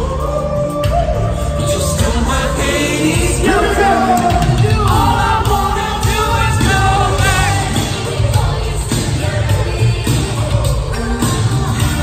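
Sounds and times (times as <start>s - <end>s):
lead singer: 0.0s - 12.0s
live pop music: 0.0s - 12.0s
strong bass beat: 0.0s - 12.0s.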